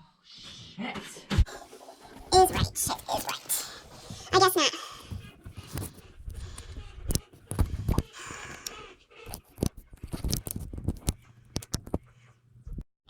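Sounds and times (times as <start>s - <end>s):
knocks and scraping in coop: 1.5s - 12.3s.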